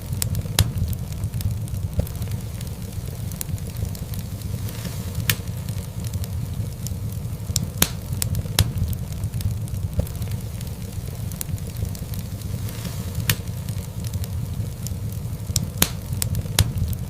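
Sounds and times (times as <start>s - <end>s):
fire crackling and popping: 0.0s - 17.0s
wood fire flames rumbling: 0.0s - 17.0s.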